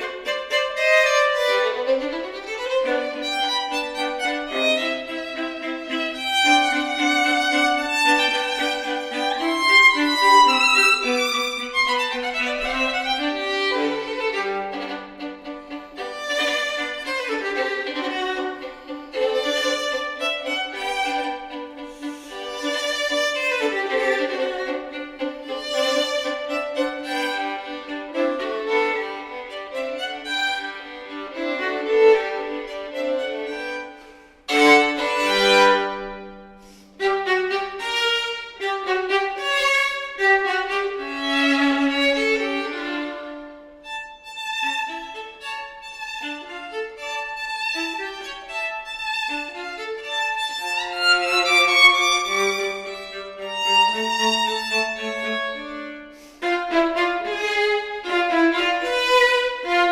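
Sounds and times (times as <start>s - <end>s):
violin and viola duet: 0.0s - 59.9s.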